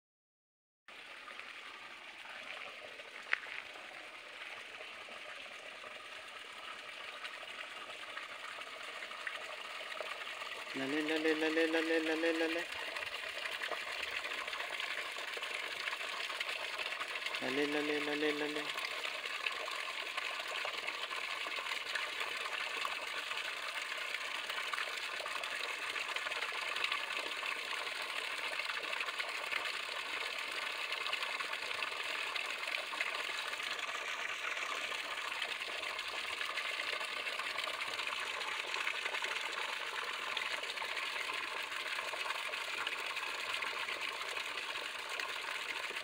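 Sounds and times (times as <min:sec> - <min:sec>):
water splashing into a pool: 0:00.9 - 0:46.0.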